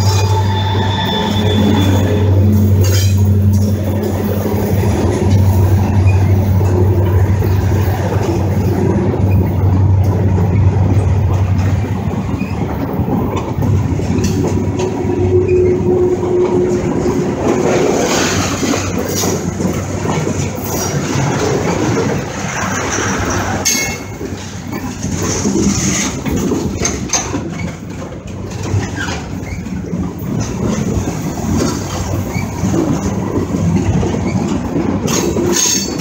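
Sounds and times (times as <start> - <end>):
train rattling: 0.0 - 36.0
train wheels rumbling on rails: 0.0 - 36.0.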